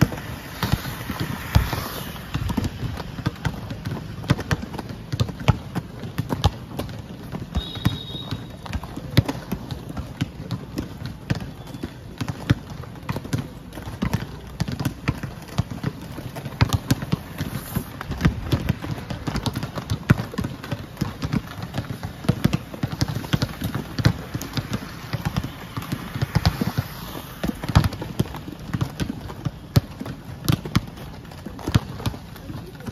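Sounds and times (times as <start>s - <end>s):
skate wheels rolling on tiles: 0.0s - 8.2s, 8.8s - 32.8s
basketballs bouncing on tiles: 0.0s - 32.9s.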